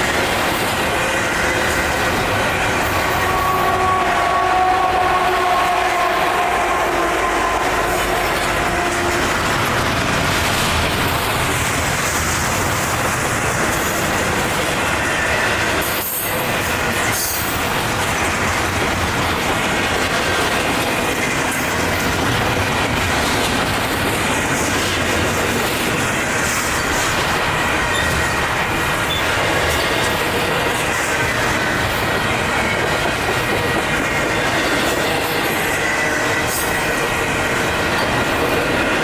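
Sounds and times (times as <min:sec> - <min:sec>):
freight train cars rolling: 0:00.0 - 0:39.0.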